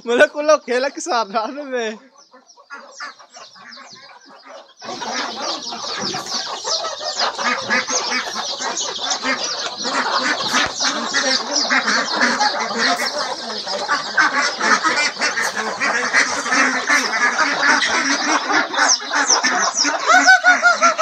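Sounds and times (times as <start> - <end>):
chickens clucking: 0.0 - 21.0
ducks quacking: 0.0 - 21.0.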